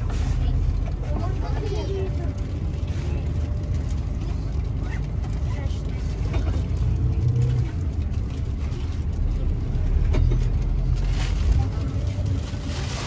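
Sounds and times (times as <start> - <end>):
bus engine low rumble: 0.0 - 13.0.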